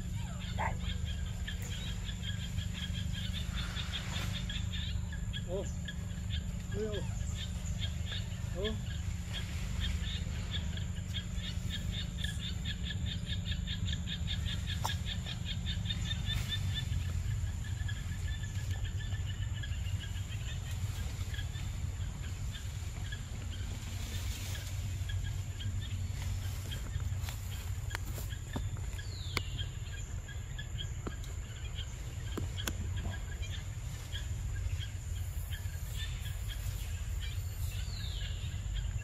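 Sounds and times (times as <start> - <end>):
rapid repeated calls: 0.0 - 38.9
high insect drone: 0.0 - 39.0
low rumble: 0.0 - 39.0.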